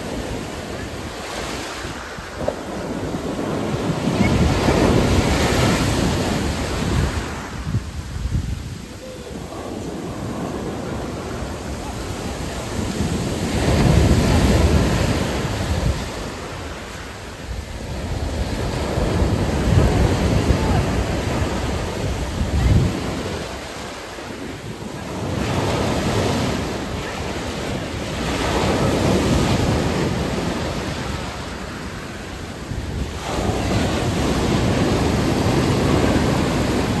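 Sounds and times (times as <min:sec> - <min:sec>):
surf breaking on beach: 0:00.0 - 0:37.0
wind buffeting microphone: 0:00.0 - 0:37.0.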